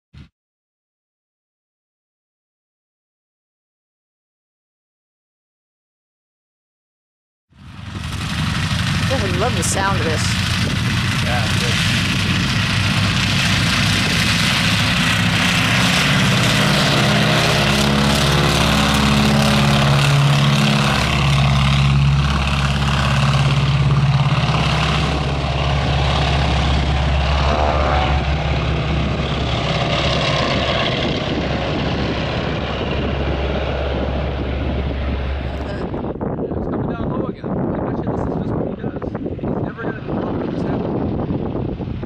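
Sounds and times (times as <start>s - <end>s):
propeller aircraft engine running: 7.5s - 42.0s.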